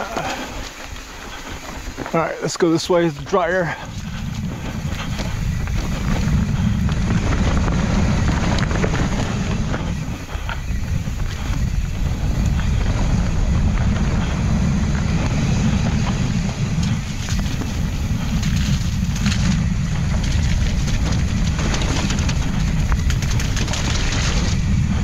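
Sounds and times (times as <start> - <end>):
bike clicks and rattles: 0.0 - 25.0
bike tyre noise: 0.0 - 25.0
wind buffeting microphone: 0.0 - 25.0.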